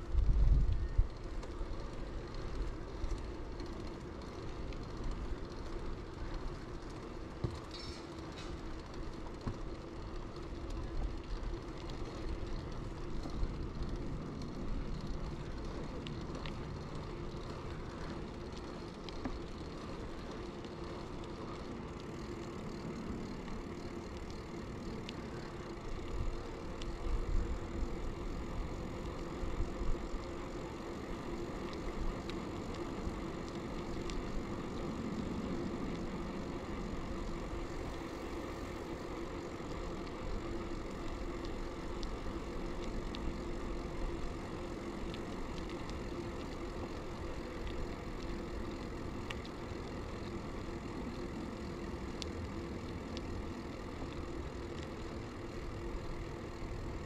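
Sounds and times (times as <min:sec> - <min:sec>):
bicycle rolling road noise: 0:00.0 - 0:57.0
faint steady hum: 0:00.0 - 0:57.0
light ticks: 0:00.6 - 0:06.9, 0:07.6 - 0:57.0.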